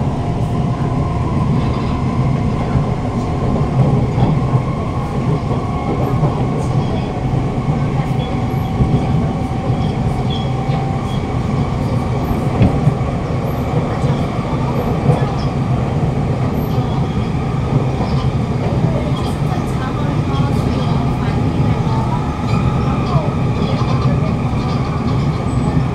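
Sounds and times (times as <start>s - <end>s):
wheels rumbling on rail: 0.0s - 25.9s.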